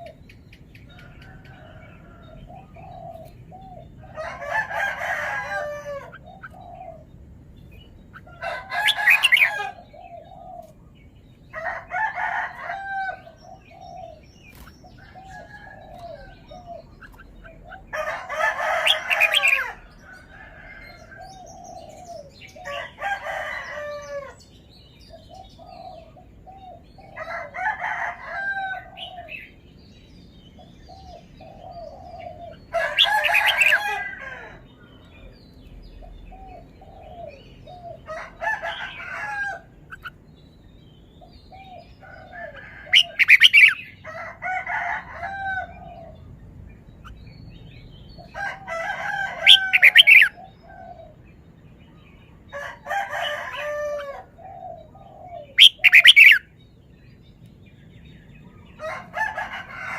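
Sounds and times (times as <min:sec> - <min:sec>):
bird song phrases: 0:00.0 - 0:59.9.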